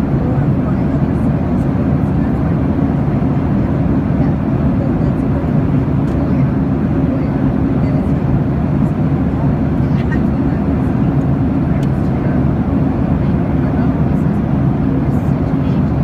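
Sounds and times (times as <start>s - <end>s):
airliner cabin engine rush: 0.0s - 16.0s.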